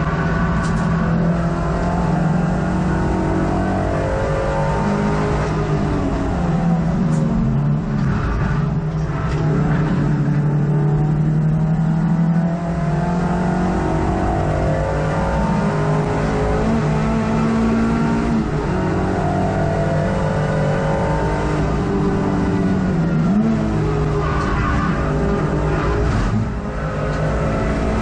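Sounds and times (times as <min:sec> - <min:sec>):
race car engine from inside cabin: 0:00.0 - 0:28.0.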